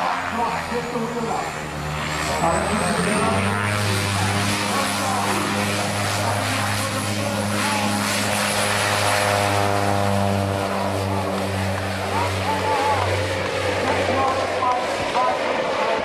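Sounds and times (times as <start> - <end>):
high turbine whine: 0.0 - 16.0
propeller drone: 0.0 - 16.0.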